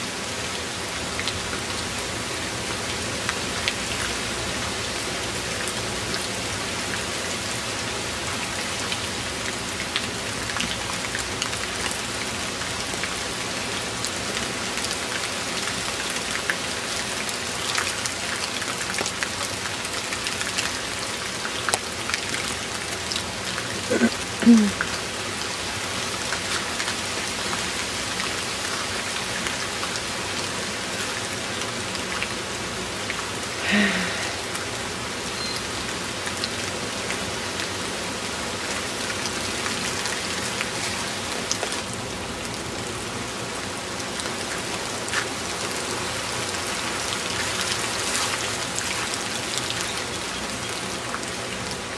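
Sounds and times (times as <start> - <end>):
rain on leaves: 0.0 - 51.9.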